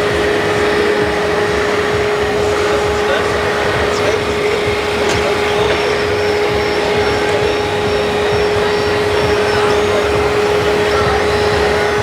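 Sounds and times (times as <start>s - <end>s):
noisy background: 0.0s - 12.0s
small motor whining: 0.0s - 12.0s.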